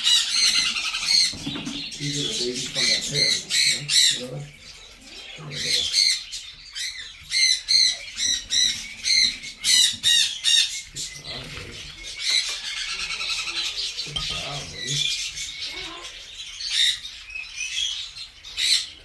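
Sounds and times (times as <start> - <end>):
macaws squawking: 0.0 - 19.0.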